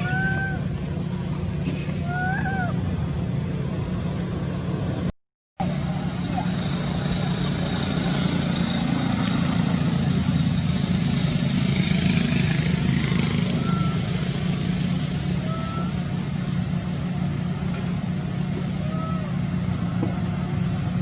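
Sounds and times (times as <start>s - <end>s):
motor engine humming: 0.0s - 21.0s.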